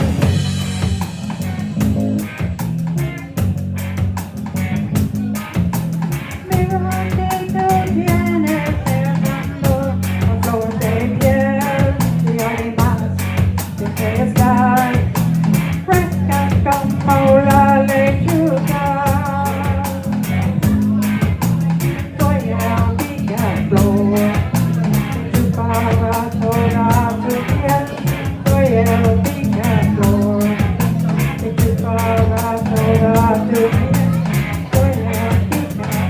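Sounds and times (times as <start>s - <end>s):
drum beat: 0.0s - 36.0s
live rock band playing: 0.0s - 36.0s
person singing: 6.3s - 36.0s.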